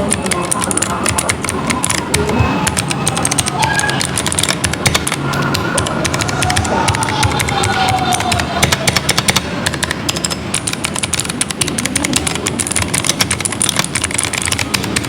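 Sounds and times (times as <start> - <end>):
mechanical keyboard typing: 0.0 - 15.0.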